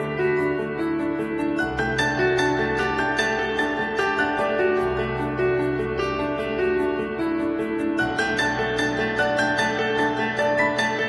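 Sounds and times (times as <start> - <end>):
plucked and keyboard melody: 0.0 - 11.0.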